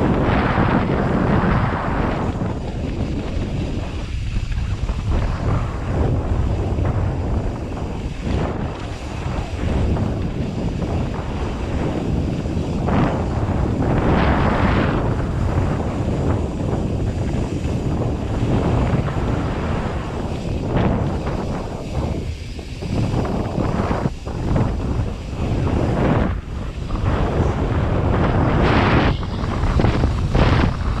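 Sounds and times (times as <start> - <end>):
bike tyres rumbling: 0.0 - 31.0
wind buffeting microphone: 0.0 - 31.0.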